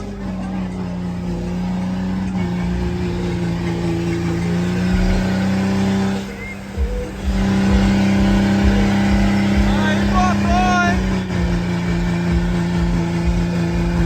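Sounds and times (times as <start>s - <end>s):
car engine revving: 0.0s - 14.0s
low thumps: 1.1s - 14.0s.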